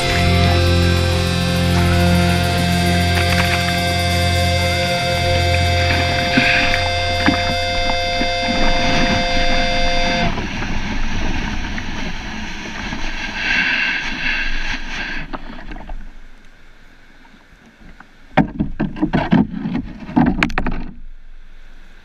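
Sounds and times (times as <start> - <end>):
wind and water rushing: 0.0 - 22.0.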